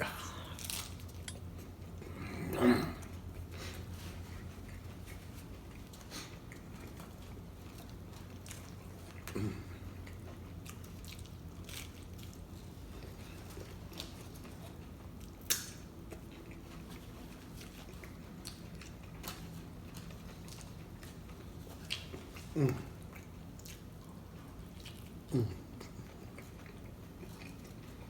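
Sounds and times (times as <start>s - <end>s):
people chewing food: 0.0s - 28.0s.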